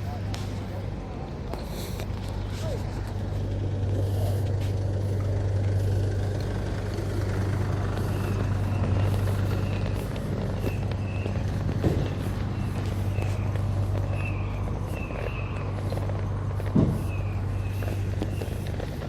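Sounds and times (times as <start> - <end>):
heavy vehicle engine humming: 0.0 - 19.0.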